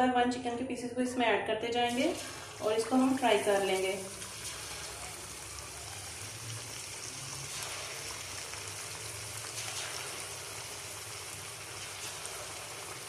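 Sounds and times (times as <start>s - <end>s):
chicken sizzling in hot oil: 1.9s - 13.0s.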